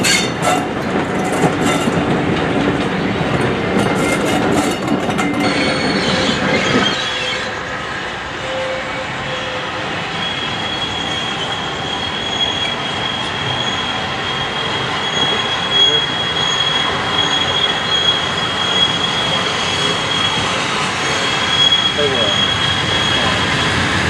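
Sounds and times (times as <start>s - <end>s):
train rumble: 0.0s - 24.0s
train wheels squealing: 4.0s - 24.0s.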